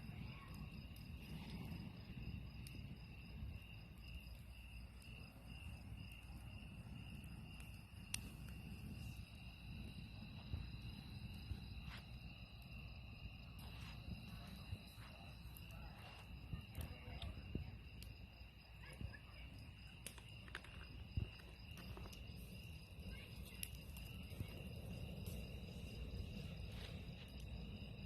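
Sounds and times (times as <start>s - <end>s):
campfire popping and crackling: 0.0s - 28.0s
crickets trilling: 0.0s - 28.0s.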